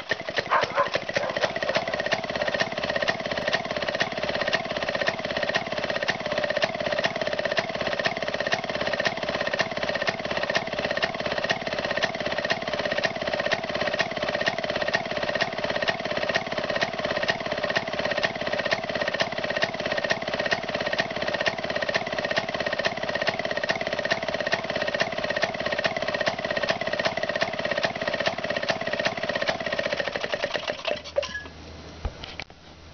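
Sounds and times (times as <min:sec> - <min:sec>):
two-stroke engine firing pops: 0:00.0 - 0:31.5.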